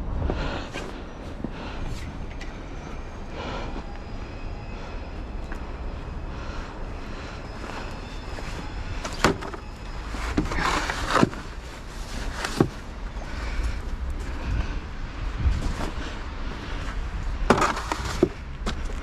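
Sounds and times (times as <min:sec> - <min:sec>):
steady low rumble: 0:00.0 - 0:10.4, 0:11.3 - 0:19.0.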